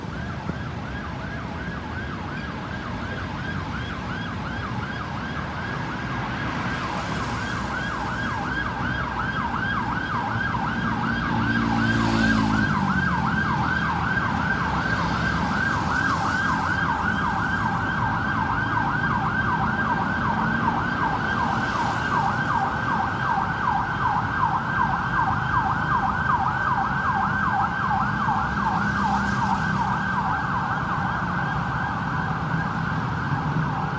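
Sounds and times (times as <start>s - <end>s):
ambulance siren yelping: 0.0s - 33.9s
road and engine noise: 0.0s - 33.9s.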